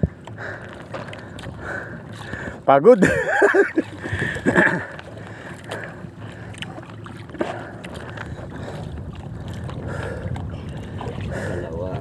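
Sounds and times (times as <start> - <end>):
low steady hum: 0.0 - 12.0
water noise: 0.0 - 12.0
wind: 0.0 - 12.0.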